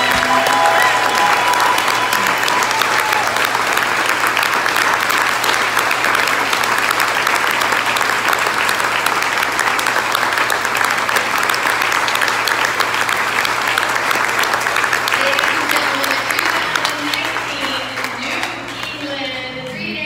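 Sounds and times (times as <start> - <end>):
crowd applauding: 0.0 - 19.8.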